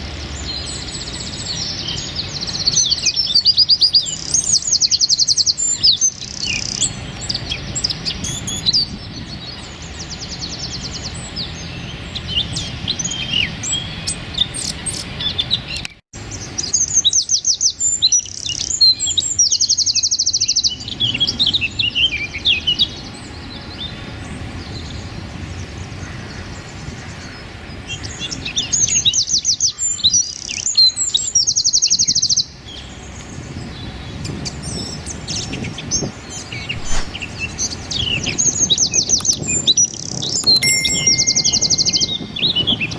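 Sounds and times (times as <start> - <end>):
wren singing rapid trills: 0.2 - 23.1, 27.9 - 42.9.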